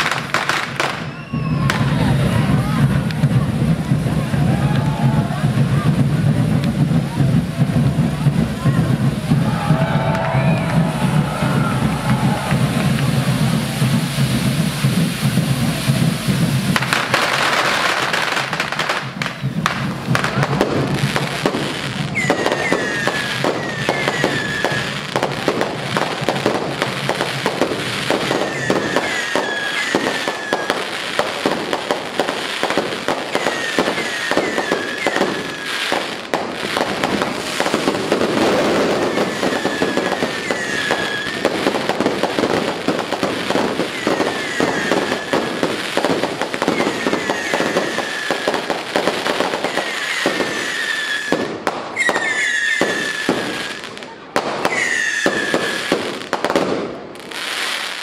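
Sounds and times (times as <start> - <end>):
falling firework whistles: 0.0 - 3.1, 8.8 - 58.0
fireworks crackling and banging: 0.0 - 58.0.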